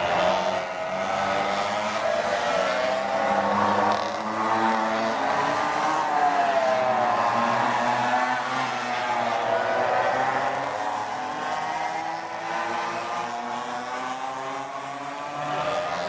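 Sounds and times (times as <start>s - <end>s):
small engine revving: 0.0s - 16.0s.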